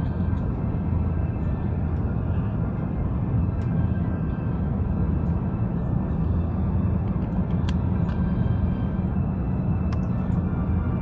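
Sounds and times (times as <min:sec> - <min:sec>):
airplane cabin roar: 0:00.0 - 0:11.0.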